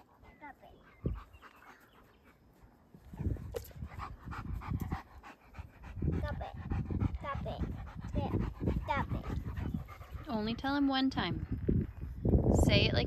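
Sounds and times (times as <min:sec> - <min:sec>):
dog panting: 0:00.0 - 0:11.6.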